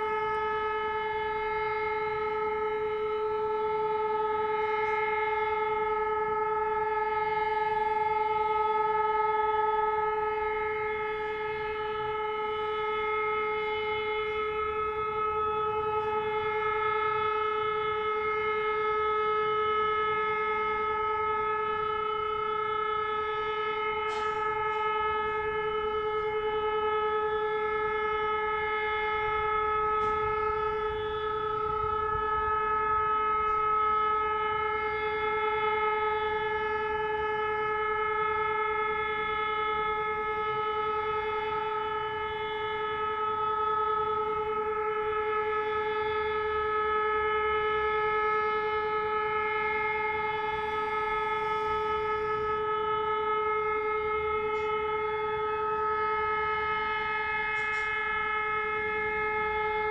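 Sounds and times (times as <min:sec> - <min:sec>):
air-raid siren steady tone: 0:00.0 - 0:59.9.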